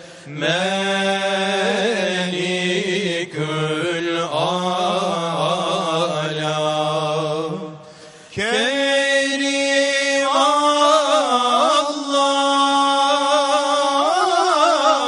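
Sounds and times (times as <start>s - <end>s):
man chanting a hymn: 0.0s - 15.0s.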